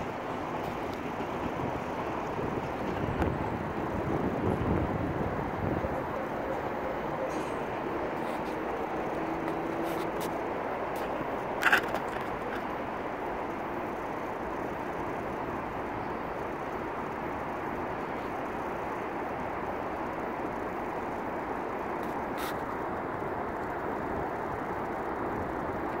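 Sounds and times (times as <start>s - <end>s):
distant vehicles: 0.0s - 26.0s.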